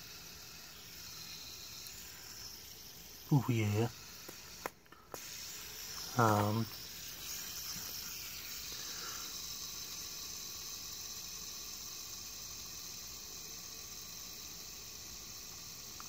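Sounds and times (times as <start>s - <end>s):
fidget spinner whirring: 0.0s - 16.0s.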